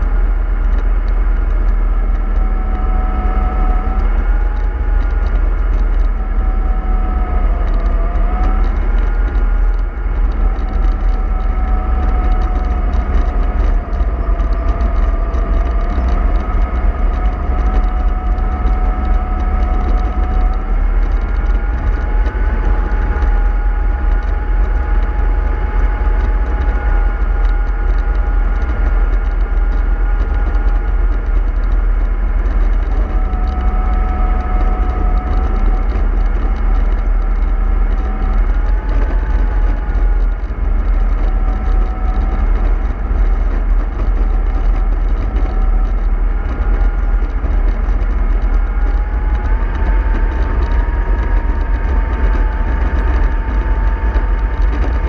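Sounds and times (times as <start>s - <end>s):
bus engine rumble: 0.0s - 55.0s
engine whine: 0.0s - 55.0s.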